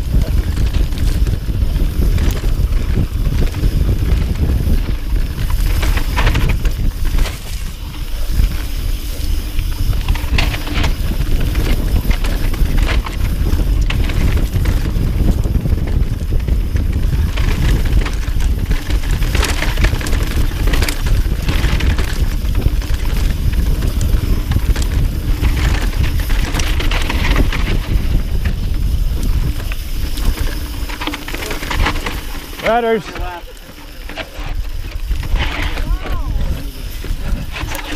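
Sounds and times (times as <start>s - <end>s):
bike clicks and rattles: 0.0s - 37.9s
tyres rumbling on dirt: 0.0s - 37.9s
wind on microphone: 0.0s - 37.9s.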